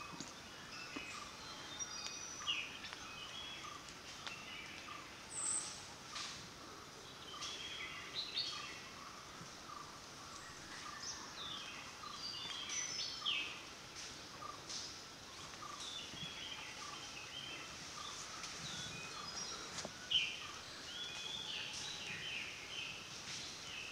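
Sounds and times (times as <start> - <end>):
birds chirping: 0.0 - 23.9
soft background hiss: 0.0 - 23.9.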